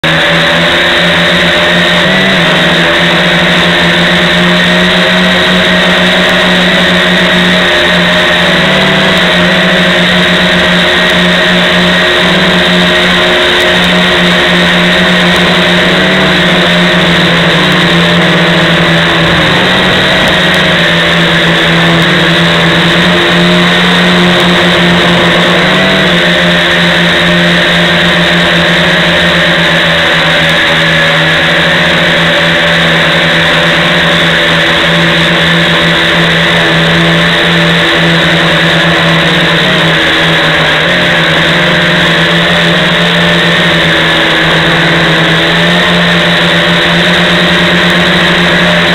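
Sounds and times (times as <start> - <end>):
drone motors and propellers droning: 0.0 - 48.9.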